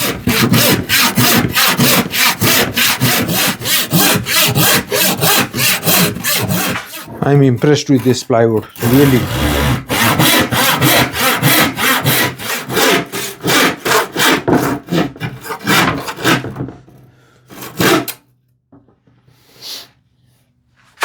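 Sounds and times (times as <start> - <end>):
hand saw cutting plywood: 0.0 - 16.8, 17.5 - 18.2.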